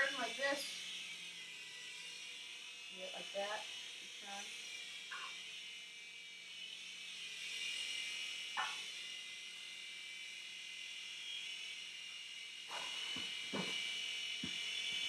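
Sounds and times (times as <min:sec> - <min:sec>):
toy helicopter motor whining: 0:00.0 - 0:15.0.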